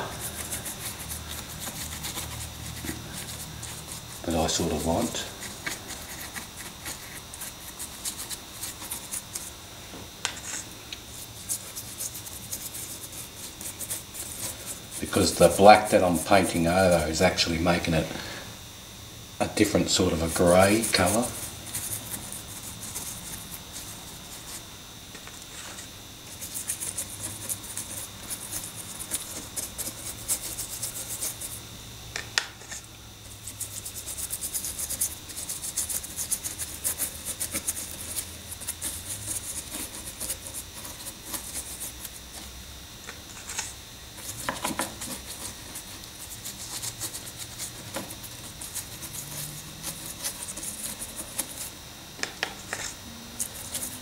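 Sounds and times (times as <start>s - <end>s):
paintbrush scrubbing rough surface: 0.0s - 9.5s, 10.4s - 18.4s, 19.5s - 24.7s, 25.4s - 31.6s, 32.6s - 42.5s, 43.3s - 51.8s, 52.6s - 54.0s.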